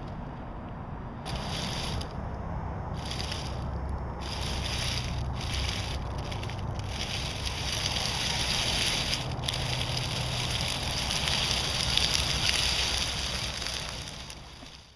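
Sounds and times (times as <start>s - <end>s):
leaves crushed under tyres: 1.3s - 14.9s
toy truck drivetrain drone: 1.3s - 14.9s.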